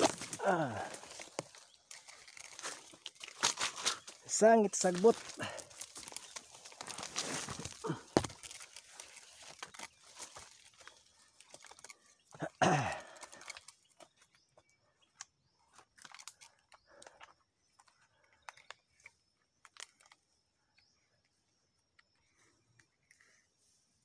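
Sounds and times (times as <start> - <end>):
crackling and rustling through plants: 0.0 - 24.0.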